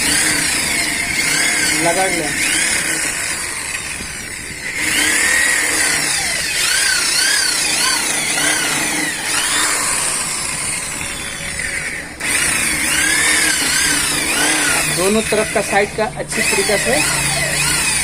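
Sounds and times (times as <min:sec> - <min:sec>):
power tool abrading rubber tyre: 0:00.0 - 0:18.0.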